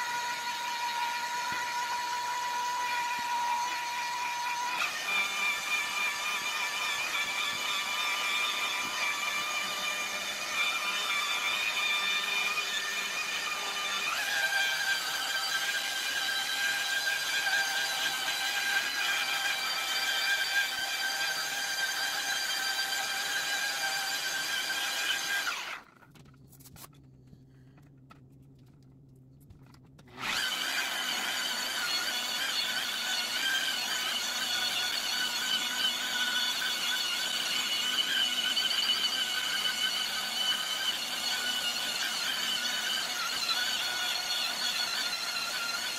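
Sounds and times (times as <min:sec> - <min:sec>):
electric polisher whining: 0:00.0 - 0:25.8, 0:30.2 - 0:45.9.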